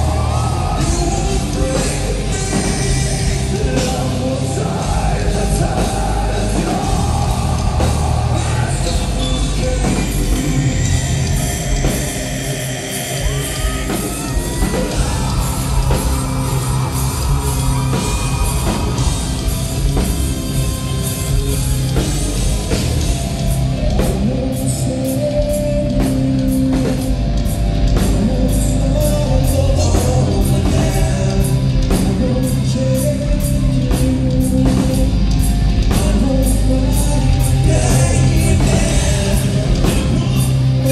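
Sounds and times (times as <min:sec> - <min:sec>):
man singing: 0:00.0 - 0:16.8, 0:24.0 - 0:27.3, 0:27.9 - 0:40.9
bass guitar: 0:00.0 - 0:40.9
drums beating: 0:00.0 - 0:40.9
heavy electric guitars: 0:00.0 - 0:40.9.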